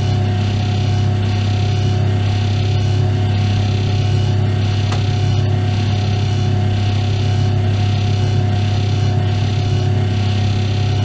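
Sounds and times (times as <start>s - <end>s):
oven electrical hum: 0.0s - 11.0s.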